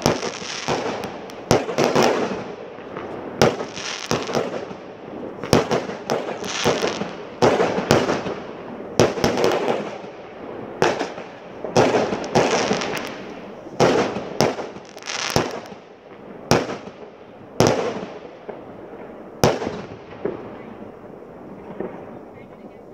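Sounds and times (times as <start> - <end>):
fireworks banging with hissing tails: 0.0 - 22.9.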